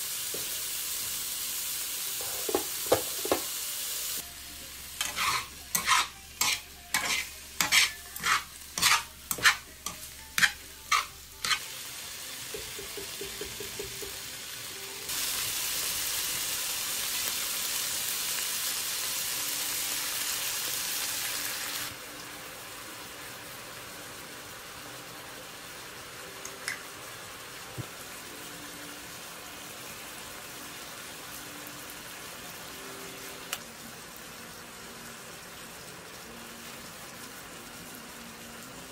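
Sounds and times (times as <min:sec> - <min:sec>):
frying sizzle: 0:00.0 - 0:38.9.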